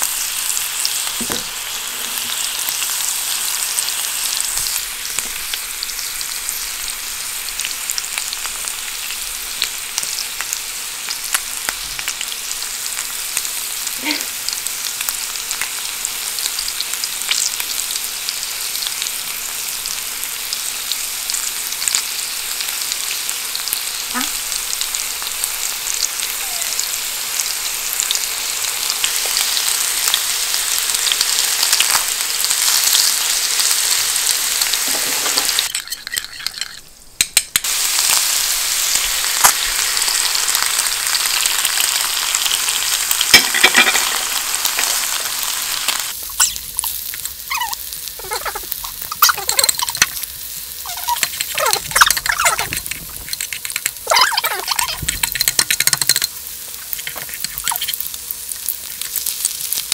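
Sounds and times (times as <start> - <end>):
fish sizzling in a pan: 0.0 - 59.9.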